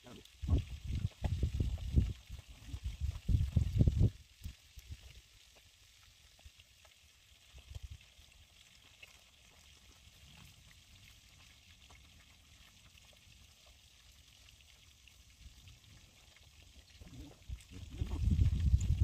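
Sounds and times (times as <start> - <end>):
fish frying in oil: 0.0 - 19.0
small oil crackles: 0.0 - 19.0.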